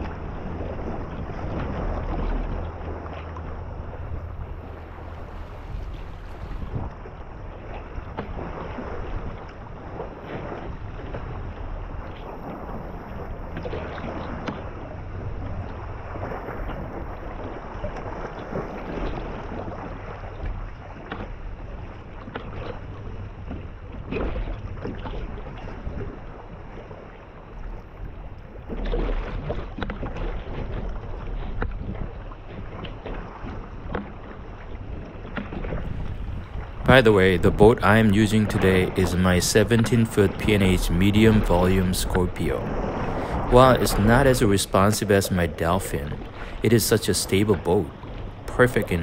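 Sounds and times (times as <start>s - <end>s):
sea water splashing around kayak: 0.0s - 49.0s
wind rumbling on microphone: 0.0s - 49.0s.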